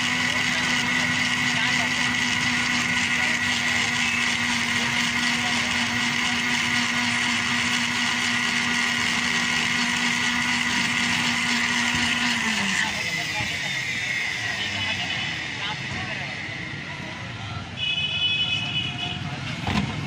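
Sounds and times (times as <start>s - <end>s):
electric blender running: 0.0s - 16.5s.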